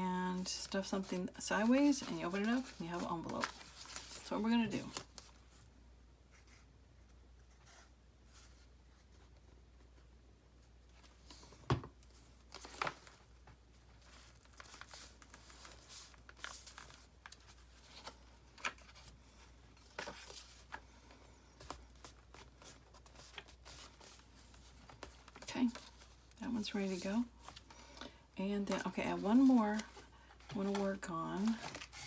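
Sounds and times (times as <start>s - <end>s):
paper rustling and crinkling: 0.2s - 5.7s, 10.9s - 28.0s, 28.6s - 32.0s.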